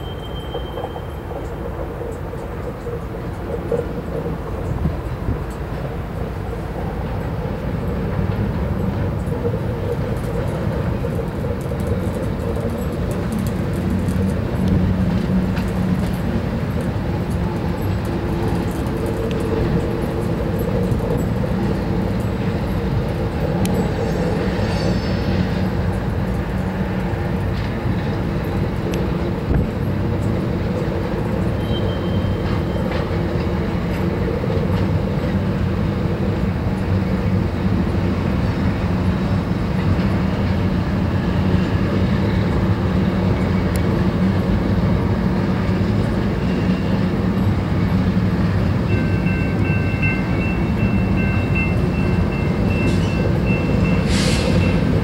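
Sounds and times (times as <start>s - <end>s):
diesel locomotive engine rumbling: 0.0s - 55.0s.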